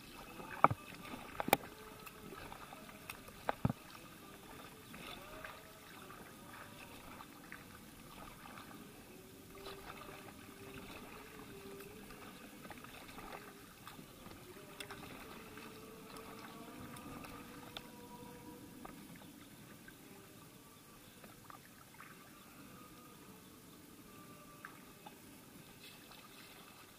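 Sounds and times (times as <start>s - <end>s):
paddle splashing in water: 0.0s - 20.0s, 24.6s - 26.9s.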